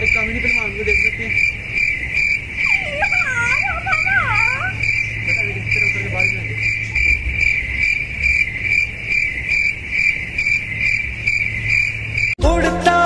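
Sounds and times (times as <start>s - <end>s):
cricket chirping: 0.0s - 12.4s.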